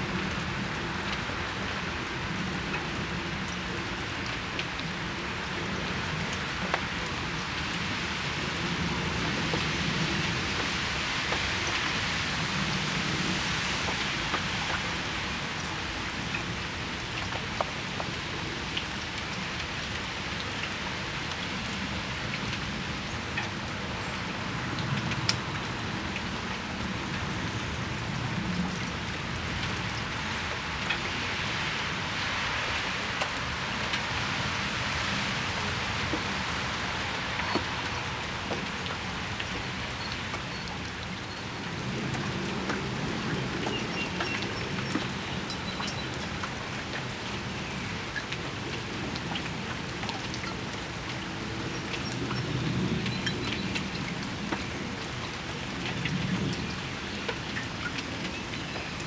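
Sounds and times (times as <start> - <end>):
rain falling on a patio: 0.0 - 59.0
raindrops ticking: 0.0 - 59.0.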